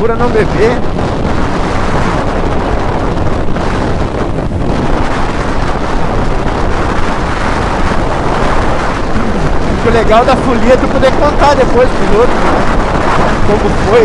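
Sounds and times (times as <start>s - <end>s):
motorcycle running: 0.0s - 14.0s
wind rushing over microphone: 0.0s - 14.0s.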